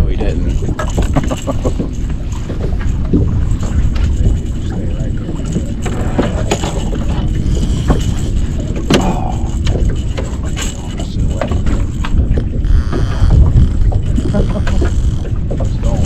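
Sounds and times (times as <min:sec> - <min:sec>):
wind rumbling on microphone: 0:00.0 - 0:16.0
clicks and knocks of fishing tackle: 0:00.4 - 0:16.0.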